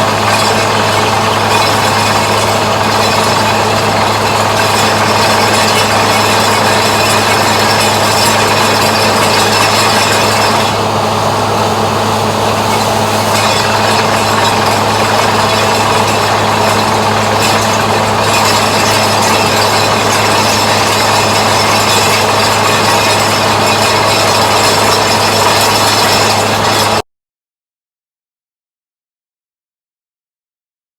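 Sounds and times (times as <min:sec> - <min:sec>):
boring machine humming: 0:00.0 - 0:27.0.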